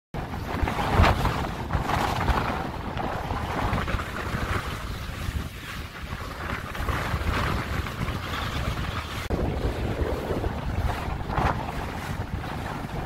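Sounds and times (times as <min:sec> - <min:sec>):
water rushing and splashing: 0:00.2 - 0:13.0
wind buffeting microphone: 0:00.2 - 0:13.0.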